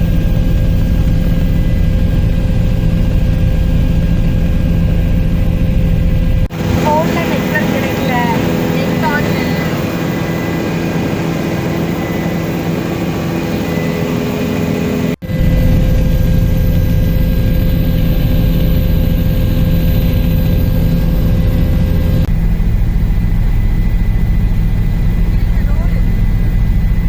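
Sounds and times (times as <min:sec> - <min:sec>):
helicopter engine and rotor: 0:00.0 - 0:27.0.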